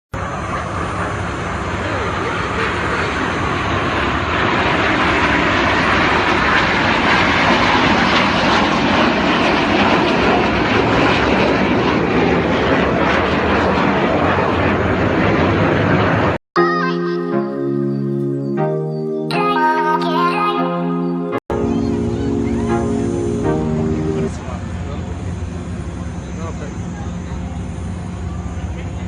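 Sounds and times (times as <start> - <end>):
aircraft engine rushing: 0.2 - 16.4, 21.3 - 29.0.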